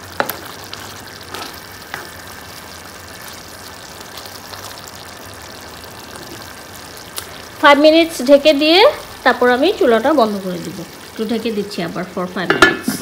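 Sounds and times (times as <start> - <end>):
curry sizzling in a frying pan: 0.0 - 13.0.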